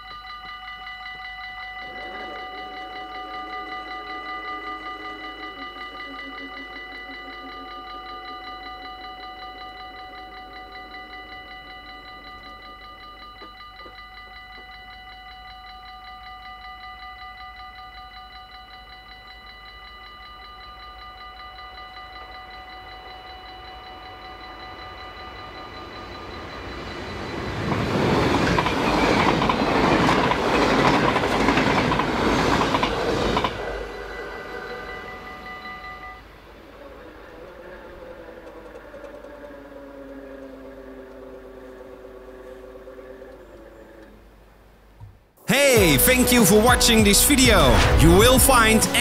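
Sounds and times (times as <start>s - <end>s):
level-crossing bells ringing: 0.0s - 32.4s, 33.0s - 36.6s, 45.5s - 49.0s
electric train passing: 0.0s - 44.1s.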